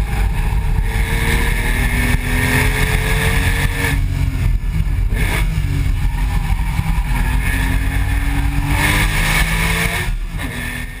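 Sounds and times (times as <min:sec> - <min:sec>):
car exhaust at speed: 0:00.0 - 0:11.0.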